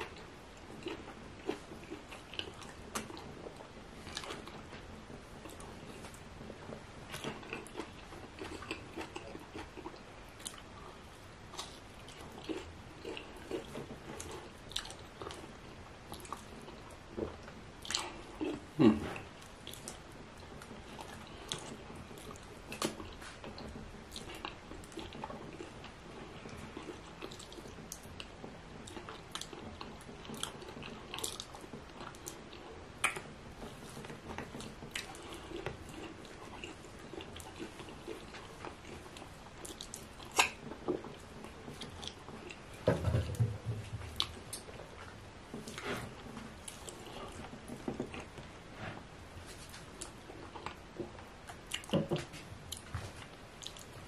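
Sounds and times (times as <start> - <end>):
person chewing with wet mouth sounds: 0.0 - 42.8, 44.1 - 54.0.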